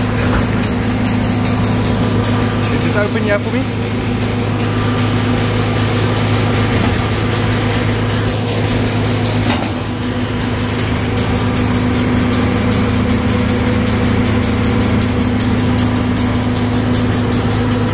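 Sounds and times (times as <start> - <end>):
machinery hum: 0.0 - 17.9.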